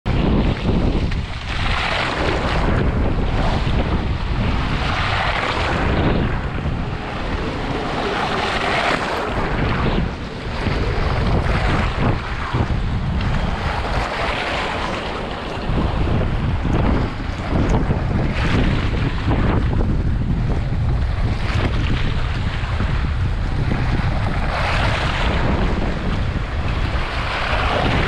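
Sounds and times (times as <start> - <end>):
strong wind buffeting microphone: 0.0 - 28.0
water splashing over dock: 0.1 - 28.0.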